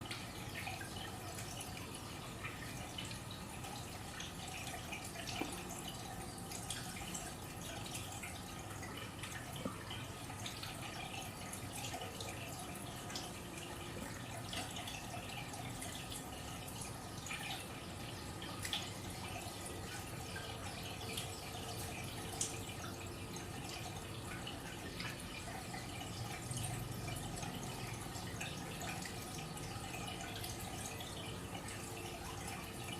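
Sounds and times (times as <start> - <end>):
water trickling and dripping: 0.0 - 32.9.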